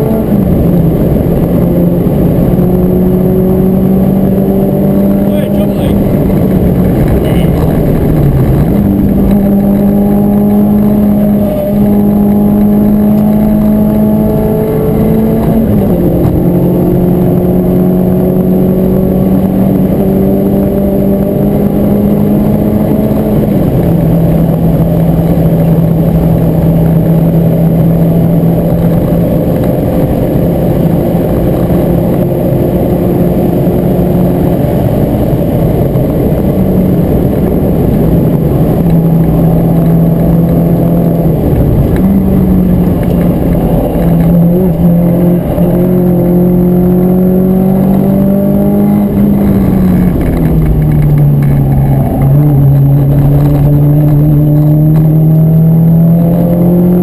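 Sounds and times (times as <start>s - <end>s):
car engine at high revs: 0.0s - 57.0s
road and wind noise: 0.0s - 57.0s.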